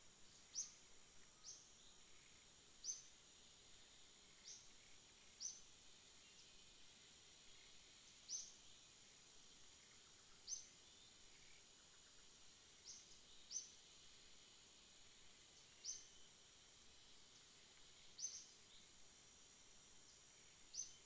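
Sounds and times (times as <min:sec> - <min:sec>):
high thin insect drone: 0:00.0 - 0:21.0.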